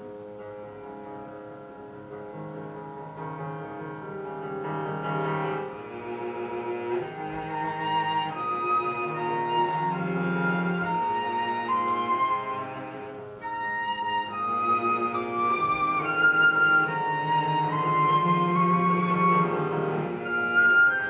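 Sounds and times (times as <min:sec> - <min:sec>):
woodwind: 0:00.0 - 0:21.0
cello bowing sustained notes: 0:02.4 - 0:21.0.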